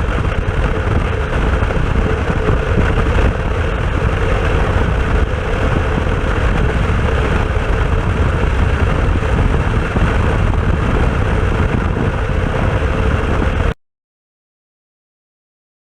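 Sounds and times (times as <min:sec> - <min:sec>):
motorcycle engine at steady revs: 0:00.0 - 0:13.8
wind rumble on microphone: 0:00.0 - 0:13.8.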